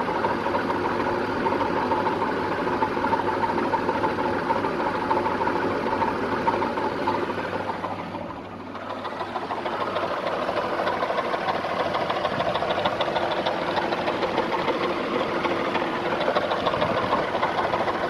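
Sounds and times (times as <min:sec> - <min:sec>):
car engine knocking: 0:00.0 - 0:18.0.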